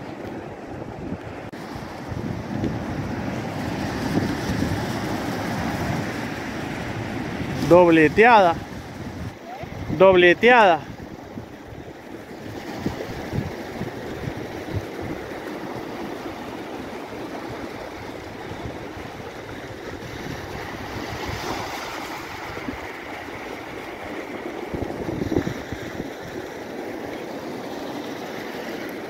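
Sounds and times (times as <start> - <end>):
wind rumbling on microphone: 0.0 - 29.0
waves breaking on pebble beach: 1.4 - 29.0.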